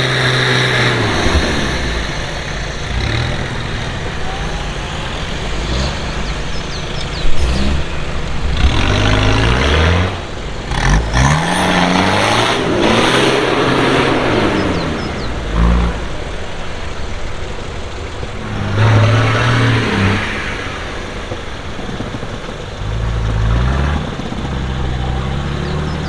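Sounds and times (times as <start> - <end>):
off-road engine revving: 0.0 - 26.0
steady rush of running noise: 0.0 - 26.0.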